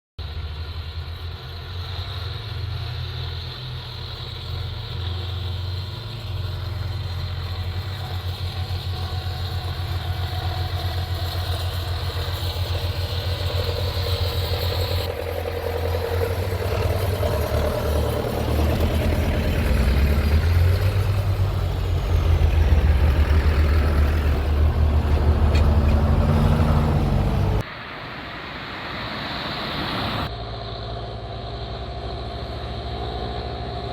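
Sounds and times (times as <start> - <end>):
tractor engines rumbling: 0.2 - 33.9.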